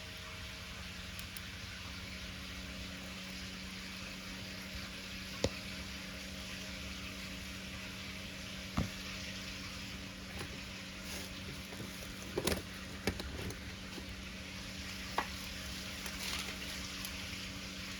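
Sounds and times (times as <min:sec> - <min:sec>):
wood bonfire hissing: 0:00.0 - 0:17.9.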